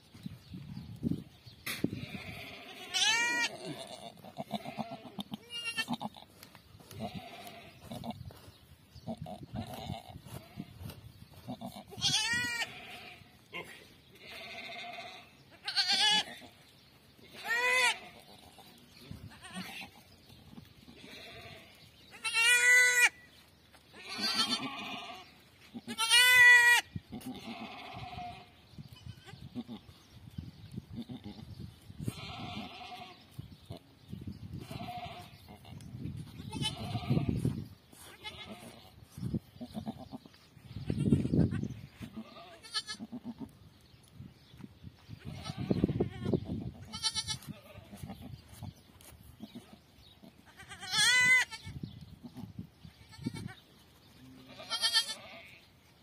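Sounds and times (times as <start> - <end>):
goats bleating: 1.9 - 8.2, 9.0 - 16.6, 17.2 - 20.1, 20.9 - 29.9, 31.0 - 33.8, 34.6 - 43.5, 45.2 - 48.6, 49.4 - 53.6, 54.2 - 55.7.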